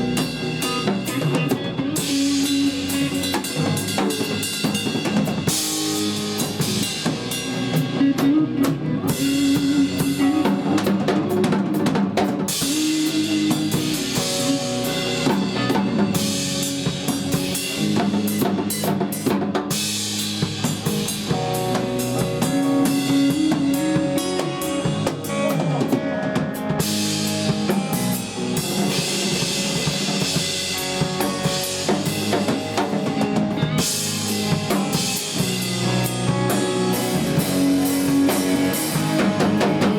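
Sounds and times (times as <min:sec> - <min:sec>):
band holding low notes: 0:00.0 - 0:39.9
rock drum solo: 0:00.0 - 0:39.9.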